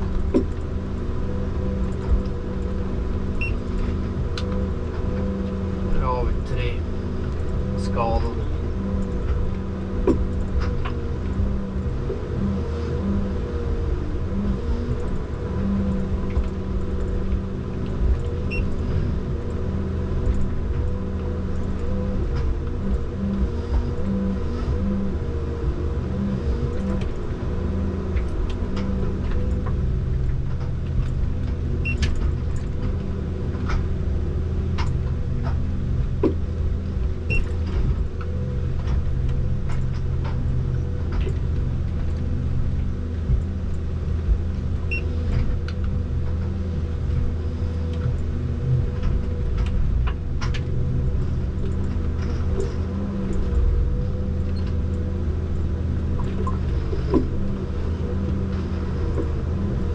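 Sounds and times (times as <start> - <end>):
harvester engine and hydraulics: 0.0 - 59.9.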